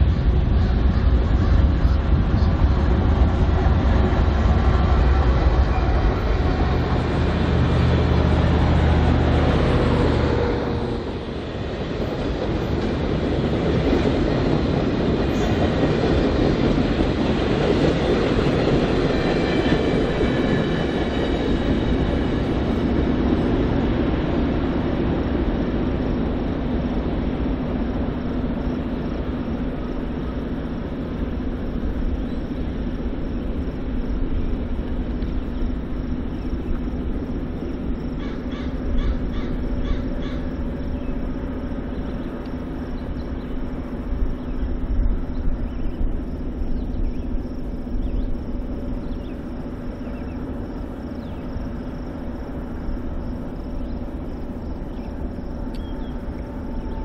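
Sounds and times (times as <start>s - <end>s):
diesel locomotive engine drone: 0.0s - 57.0s
train cars rumbling on rails: 0.0s - 57.0s.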